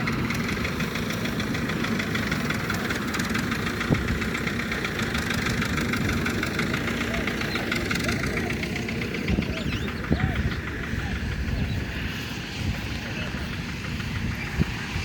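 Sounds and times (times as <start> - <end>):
engine running with fast beat: 0.0 - 15.0.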